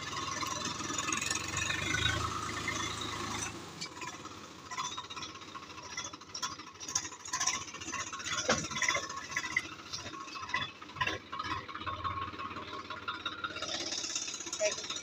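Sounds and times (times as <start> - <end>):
rattles and clanks: 0.0 - 15.0
tractor diesel engine running: 0.0 - 15.0.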